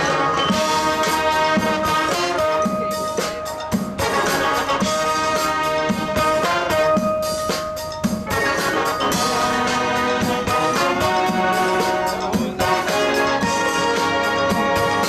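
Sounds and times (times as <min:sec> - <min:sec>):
brass sustained chords: 0:00.0 - 0:15.0
drumline beating steady rhythm: 0:00.0 - 0:15.0.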